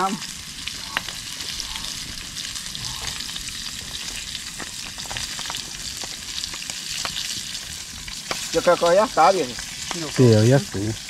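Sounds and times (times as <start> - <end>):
meat frying in hot oil: 0.0 - 11.0
crackling pops: 0.1 - 10.4.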